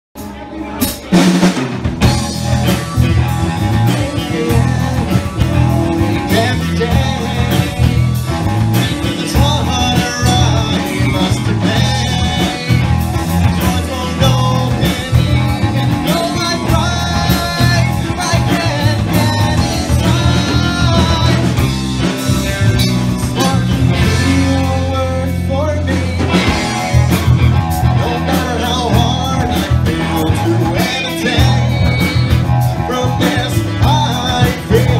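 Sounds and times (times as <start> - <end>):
man singing lead vocals: 0.2 - 34.9
rock band playing: 0.2 - 34.9.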